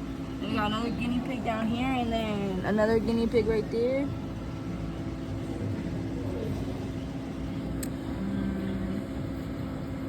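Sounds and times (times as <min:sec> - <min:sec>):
low indoor rumble and hum: 0:00.0 - 0:10.0.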